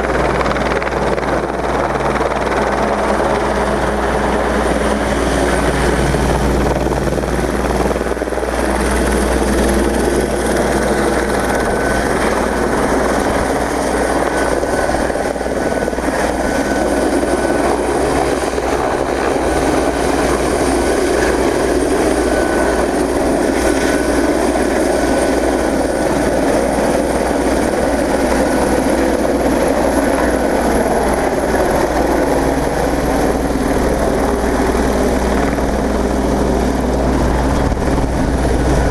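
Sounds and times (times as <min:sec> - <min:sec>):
helicopter rotor throbbing: 0:00.0 - 0:38.9.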